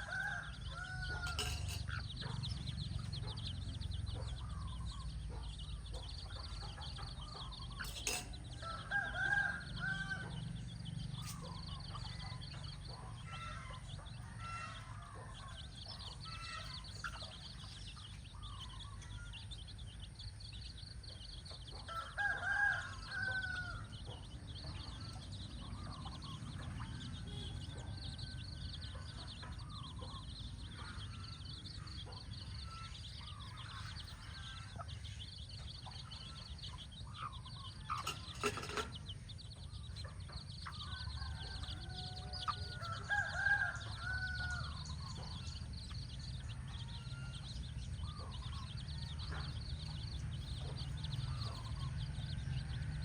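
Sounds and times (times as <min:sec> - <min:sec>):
chickens calling: 0:00.0 - 0:53.0.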